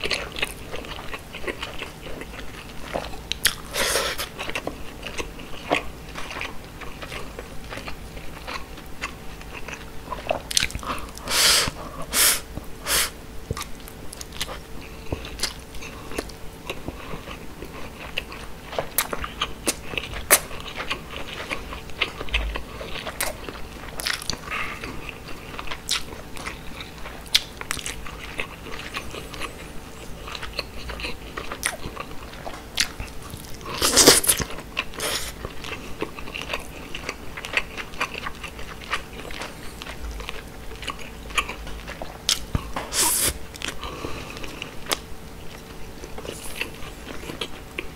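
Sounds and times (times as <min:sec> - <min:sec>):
chewing with mouth clicks: 0:00.0 - 0:12.7, 0:13.4 - 0:47.9.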